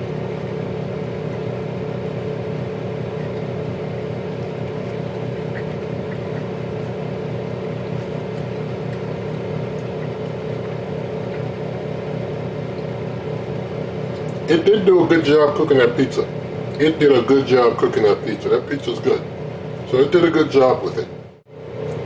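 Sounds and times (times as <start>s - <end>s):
air fryer fan humming: 0.0s - 22.0s.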